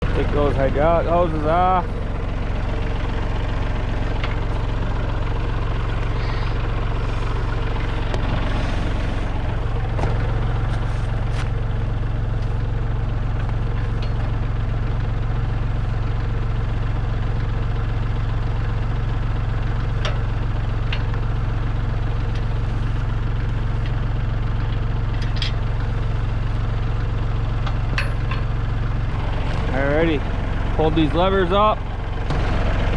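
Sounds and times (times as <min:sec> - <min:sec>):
tractor diesel engine idling: 0:00.0 - 0:32.9.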